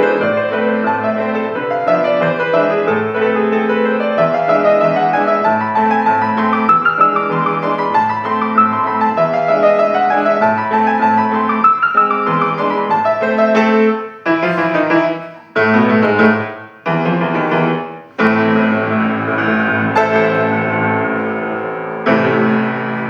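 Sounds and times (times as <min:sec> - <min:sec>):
solo piano folk dance: 0:00.0 - 0:23.0.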